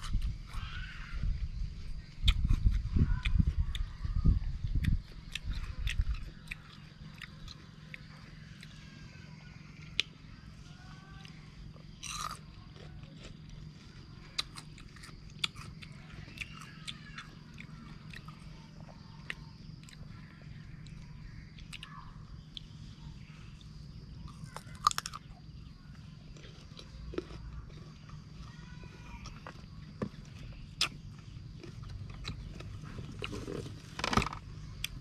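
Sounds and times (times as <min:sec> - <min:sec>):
crunchy fruit chewing: 0:00.0 - 0:35.0.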